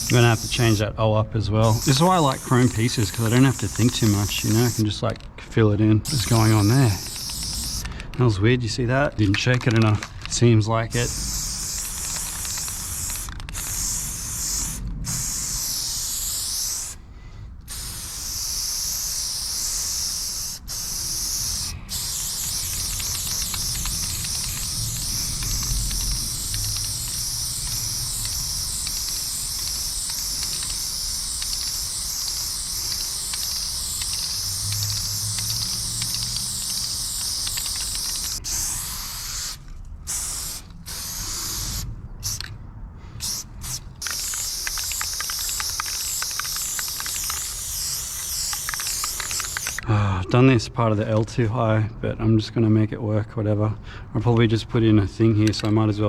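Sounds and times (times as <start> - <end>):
spray paint can hissing: 0.0 - 0.8, 1.6 - 5.0, 6.0 - 8.0, 9.6 - 17.0, 17.7 - 42.5, 43.2 - 49.8.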